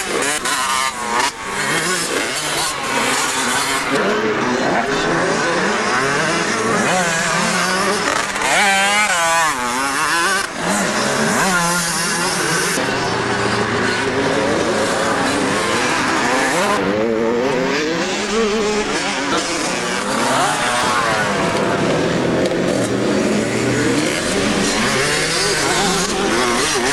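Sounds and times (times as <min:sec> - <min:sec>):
motocross bike engines revving: 0:00.0 - 0:26.9.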